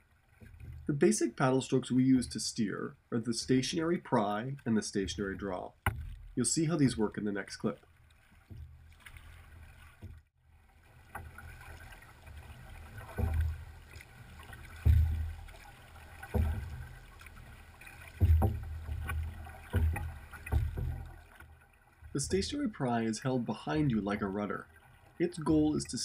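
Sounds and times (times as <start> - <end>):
canoe paddles splashing: 0.0 - 26.0.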